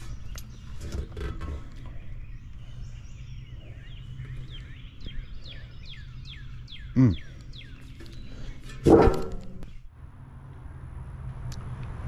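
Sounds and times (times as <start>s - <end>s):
bird chirping: 0.0s - 10.0s
steady low hum: 0.0s - 11.3s.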